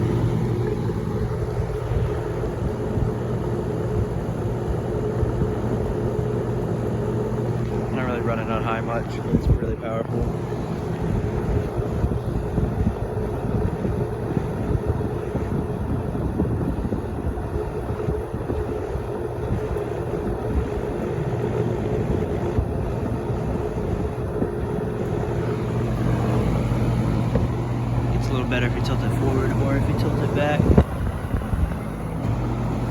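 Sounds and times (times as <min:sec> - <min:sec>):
airflow buffeting microphone: 0:00.0 - 0:32.9
fan air rushing: 0:00.0 - 0:32.9
fan motor hum: 0:00.0 - 0:32.9
fan rattling: 0:00.0 - 0:32.9.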